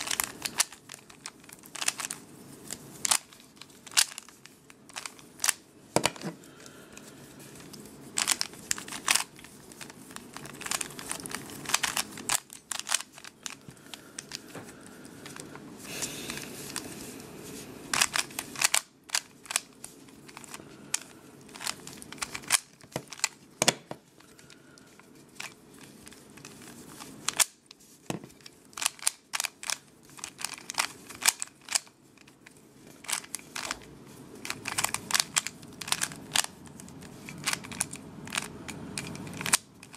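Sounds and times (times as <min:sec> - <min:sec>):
puzzle cube plastic clicks: 0:00.0 - 0:06.4, 0:07.6 - 0:14.5, 0:17.9 - 0:39.9.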